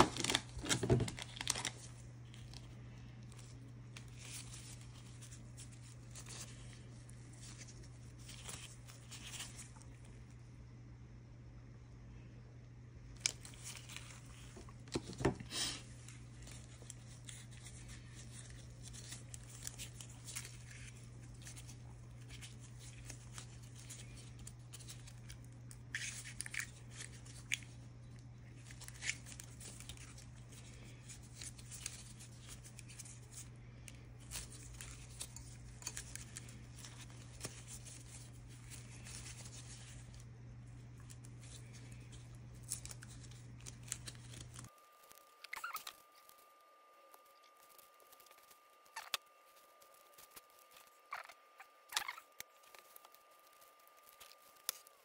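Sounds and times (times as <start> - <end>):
wire rustling: 0.0 - 10.1, 13.2 - 55.0
faint low hum: 0.0 - 55.0.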